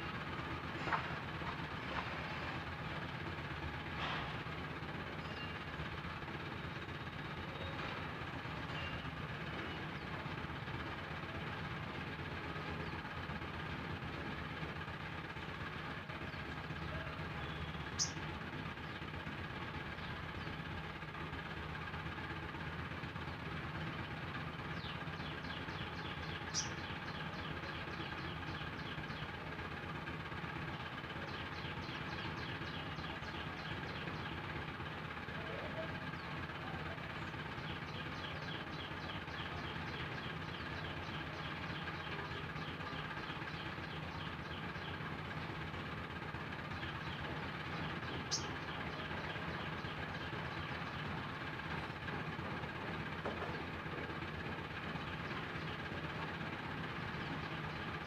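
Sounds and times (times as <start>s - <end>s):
steady background hum: 0.0s - 58.0s
birds chattering rapidly: 0.2s - 58.0s
small birds chirping: 3.8s - 14.3s, 15.6s - 21.4s, 22.4s - 58.0s.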